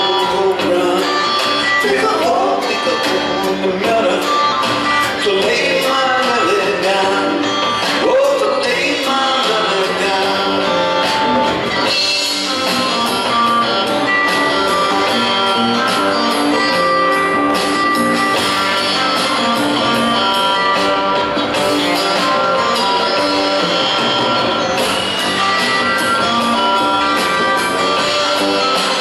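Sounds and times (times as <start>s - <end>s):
drum kit with cymbals: 0.0s - 29.0s
electric guitar: 0.0s - 29.0s
upright bass: 0.0s - 29.0s.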